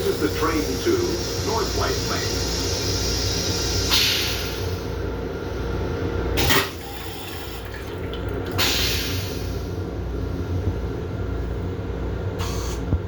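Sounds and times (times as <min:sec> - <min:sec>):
train interior rumble and hum: 0:00.0 - 0:06.6, 0:08.4 - 0:13.0.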